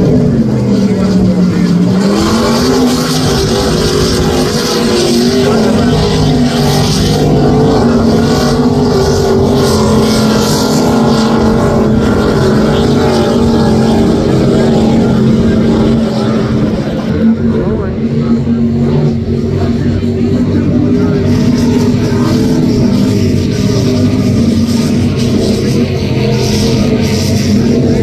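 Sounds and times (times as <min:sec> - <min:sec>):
powerboat engines droning: 0:00.0 - 0:28.0.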